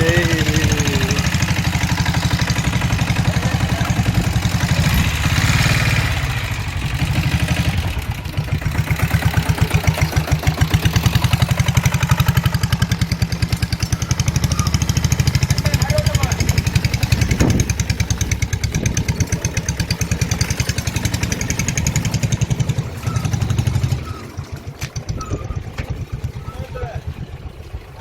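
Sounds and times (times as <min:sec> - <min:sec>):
motorcycle engine under heavy load: 0:00.0 - 0:28.0.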